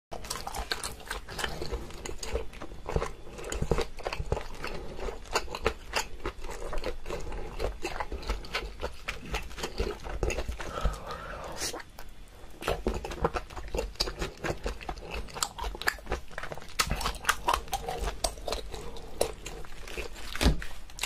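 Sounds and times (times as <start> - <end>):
person chewing food: 0.1 - 21.0.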